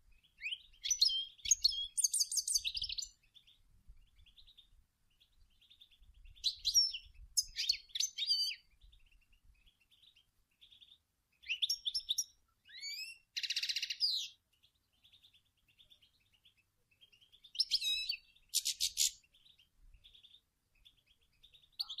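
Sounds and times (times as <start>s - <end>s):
goldfinch singing: 0.2s - 22.0s.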